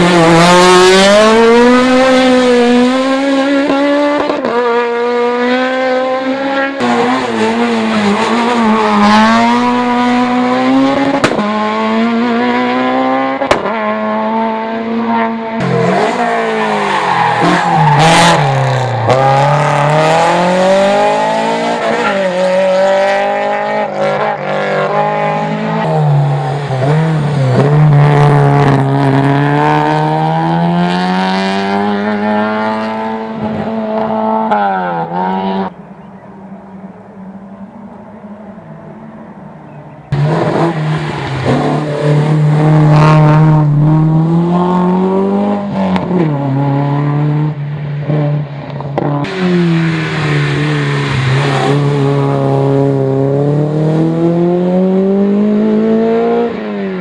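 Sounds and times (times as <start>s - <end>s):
outdoor background: 0.0s - 57.0s
race car engines revving: 0.0s - 57.0s.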